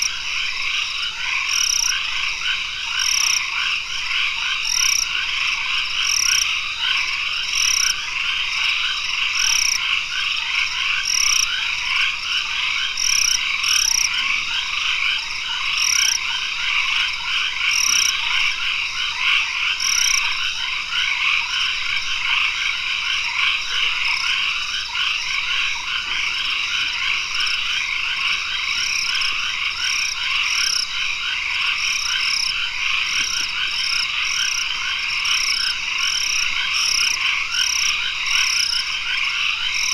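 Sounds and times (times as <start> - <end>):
frogs chorus: 0.0 - 39.9.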